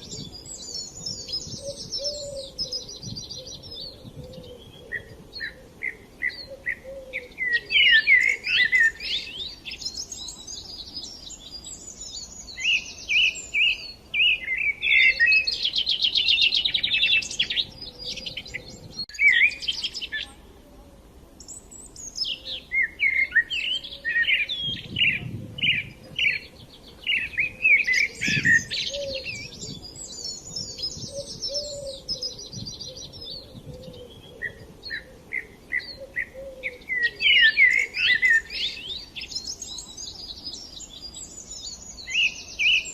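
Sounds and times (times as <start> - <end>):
small songbirds chirping: 0.0 - 42.9.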